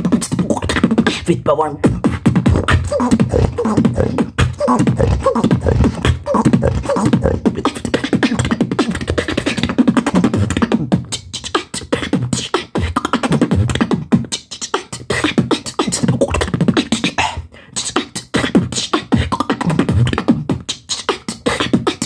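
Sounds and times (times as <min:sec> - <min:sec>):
beatboxing: 0:00.0 - 0:22.0.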